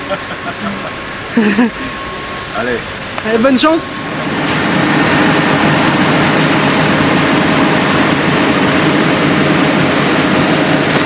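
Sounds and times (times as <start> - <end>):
printing press machine din: 1.8 - 11.0.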